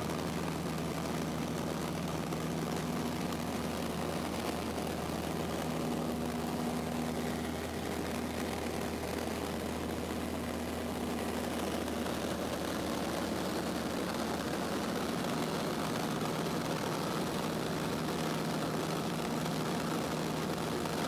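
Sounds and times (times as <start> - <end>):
aircraft engine and propeller: 0.0 - 21.0.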